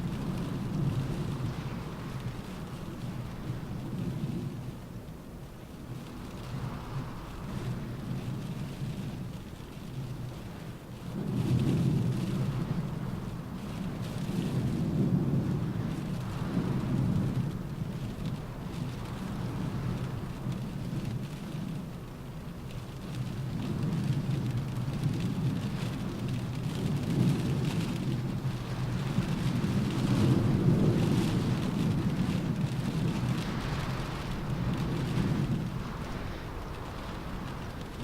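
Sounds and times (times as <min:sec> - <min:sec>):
rain drumming on car roof: 0:00.0 - 0:04.8, 0:05.8 - 0:38.0
low wind rumble: 0:00.0 - 0:38.0.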